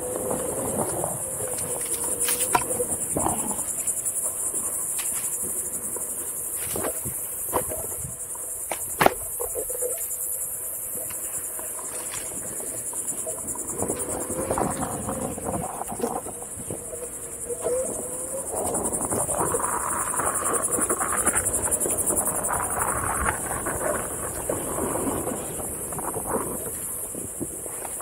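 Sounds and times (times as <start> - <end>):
electric board rolling on dirt: 0.0 - 28.0
high-pitched insect chorus: 0.0 - 28.0.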